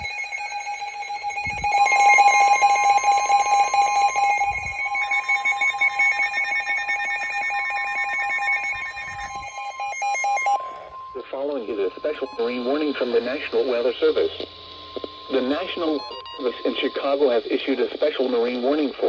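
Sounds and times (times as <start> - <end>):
steady alert tone: 0.0 - 18.6
fast electronic beeping: 0.0 - 19.0.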